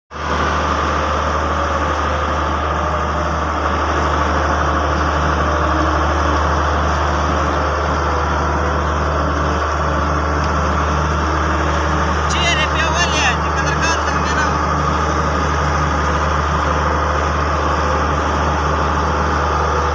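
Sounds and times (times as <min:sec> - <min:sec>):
excavator diesel engine running: 0:00.1 - 0:19.9.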